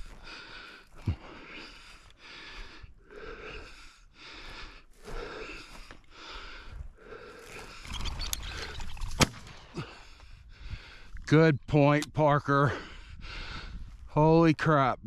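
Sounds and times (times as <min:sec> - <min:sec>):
person breathing hard: 0:00.0 - 0:11.2, 0:12.6 - 0:14.1.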